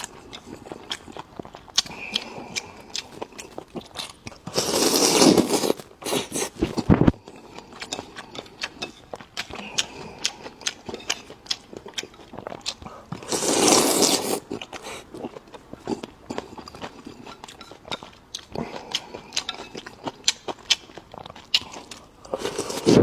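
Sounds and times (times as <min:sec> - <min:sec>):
chewing and biting: 0:00.0 - 0:06.9, 0:07.5 - 0:23.0.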